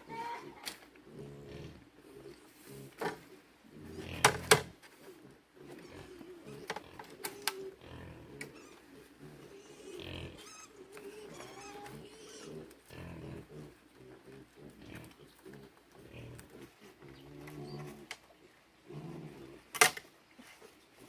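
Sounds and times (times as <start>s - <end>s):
pigs grunting: 0.0s - 21.0s.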